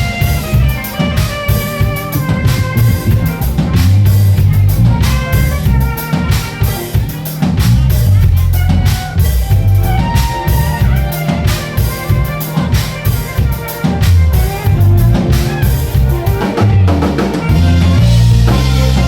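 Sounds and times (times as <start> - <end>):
band music: 0.0 - 19.0
drum kit beat: 0.0 - 19.0
heavy bass line: 0.0 - 19.0.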